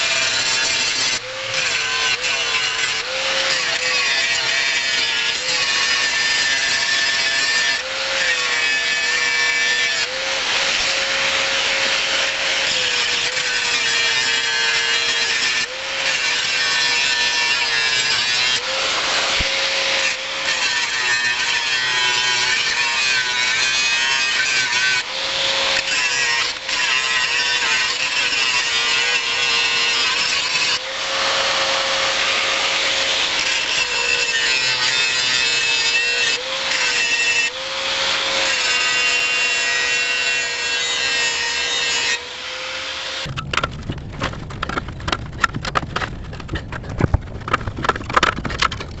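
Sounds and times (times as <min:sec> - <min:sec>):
power tool grinding: 0:00.0 - 0:49.0.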